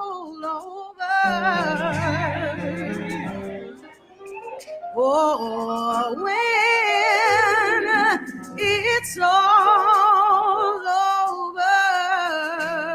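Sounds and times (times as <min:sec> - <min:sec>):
woman singing gospel song: 0:00.0 - 0:03.9, 0:04.9 - 0:12.9.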